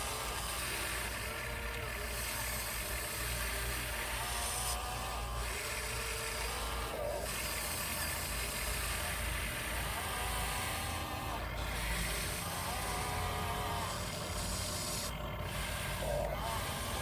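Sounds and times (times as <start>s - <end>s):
radio-controlled truck on dirt: 0.0s - 17.0s.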